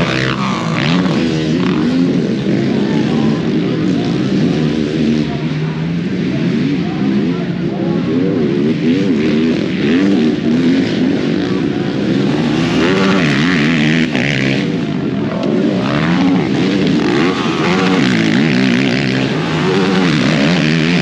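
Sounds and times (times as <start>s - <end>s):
atv engines revving: 0.0s - 21.0s.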